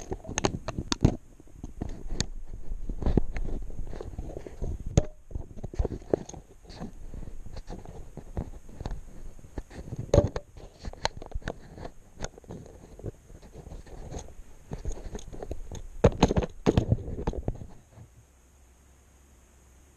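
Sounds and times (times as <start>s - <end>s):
camera handling scrapes and knocks: 0.0s - 18.0s.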